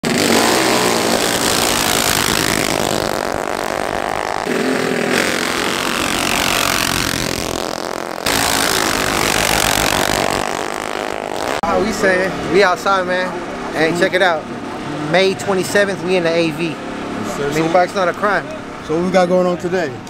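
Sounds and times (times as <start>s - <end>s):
mini bike engines revving: 0.0s - 19.6s.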